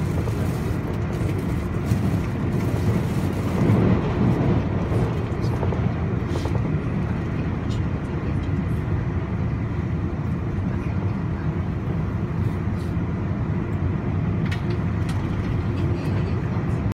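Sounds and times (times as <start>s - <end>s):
electric train rumbling: 0.0s - 16.9s.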